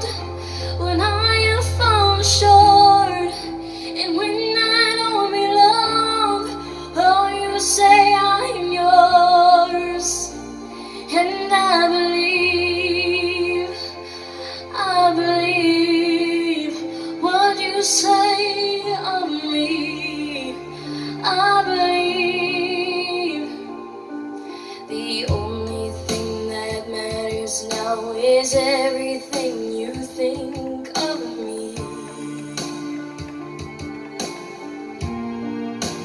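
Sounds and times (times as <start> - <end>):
woman singing ballad: 0.0 - 34.7
karaoke backing track chords: 0.0 - 36.0.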